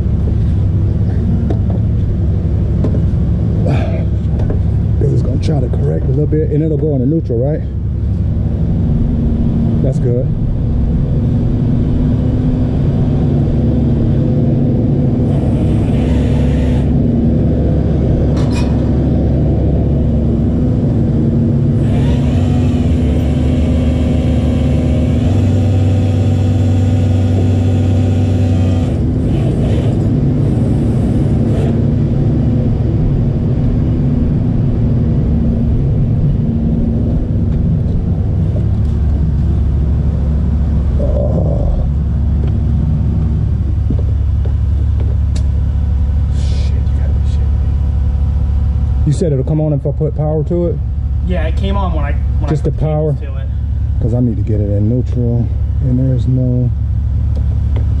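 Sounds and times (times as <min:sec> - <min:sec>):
hum with higher whine: 0:00.0 - 0:58.0
truck engine rumbling: 0:00.0 - 0:58.0.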